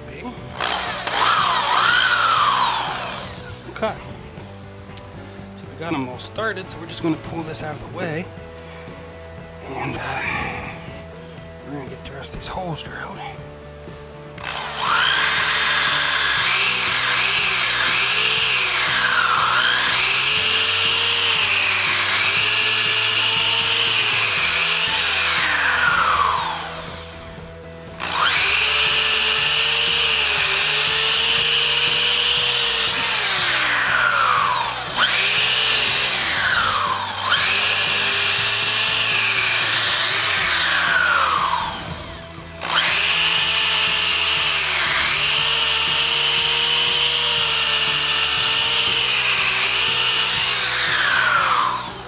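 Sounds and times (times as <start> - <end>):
power drill boring into wood: 0.0 - 13.1, 14.2 - 52.0
background music: 0.0 - 52.0.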